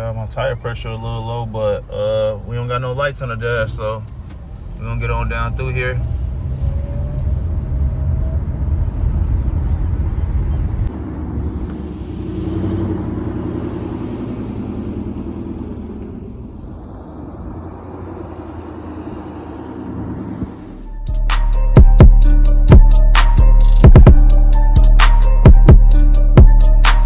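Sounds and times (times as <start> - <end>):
car road and wind rumble: 0.0 - 27.0.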